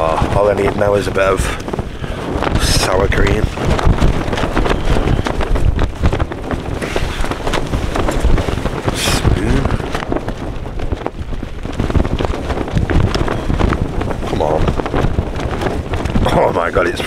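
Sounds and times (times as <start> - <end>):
tent fabric slapping and cracking: 0.0 - 17.0
wind rumbling on microphone: 0.0 - 17.0.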